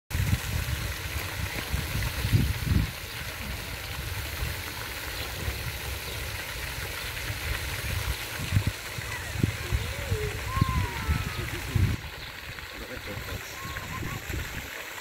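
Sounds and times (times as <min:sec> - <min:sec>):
fountain water splashing: 0:00.1 - 0:15.0.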